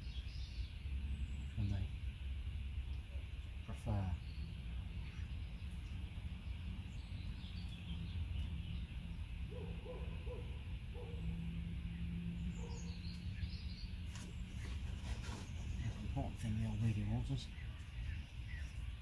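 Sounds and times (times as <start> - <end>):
low hooting bird calls: 0.0 - 19.0
small birds chirping: 0.0 - 19.0
steady low rumble: 0.0 - 19.0.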